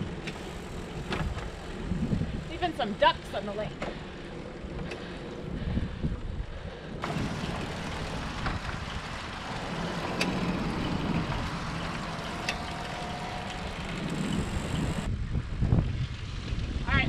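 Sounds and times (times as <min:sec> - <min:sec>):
bicycle tyre noise on pavement: 0:00.0 - 0:17.0
rushing wind: 0:00.0 - 0:17.0.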